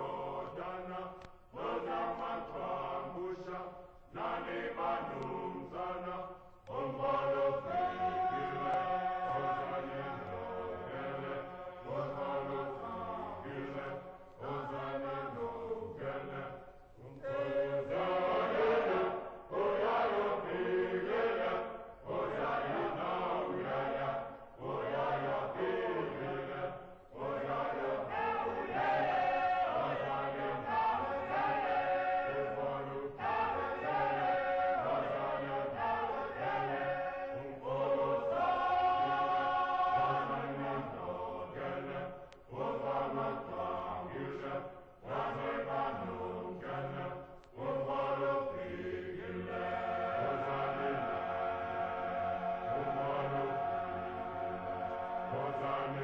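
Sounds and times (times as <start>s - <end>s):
chant-like singing: 0.0s - 56.0s.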